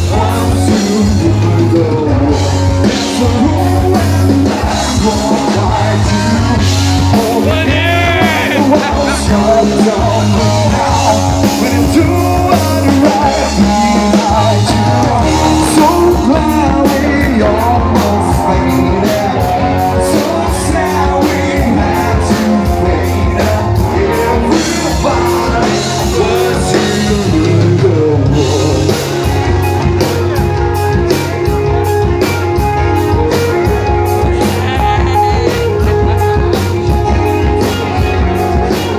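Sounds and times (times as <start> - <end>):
person singing: 0.0 - 30.5, 32.3 - 38.9
rock band playing live: 0.0 - 38.9.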